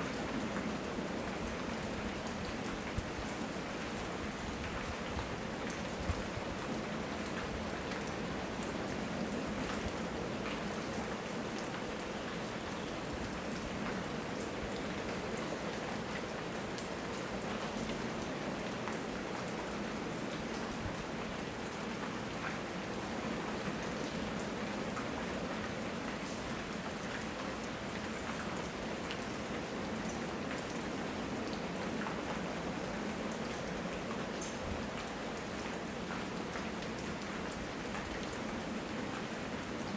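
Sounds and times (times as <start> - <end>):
raindrops ticking on surfaces: 0.0 - 39.9
steady rainfall: 0.0 - 39.9.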